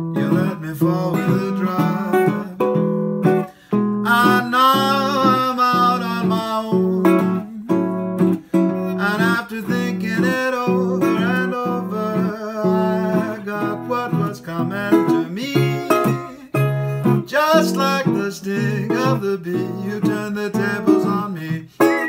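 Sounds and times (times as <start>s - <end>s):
man singing: 0.0s - 3.4s, 4.0s - 22.0s
resonator guitar fingerstyle: 0.0s - 22.0s.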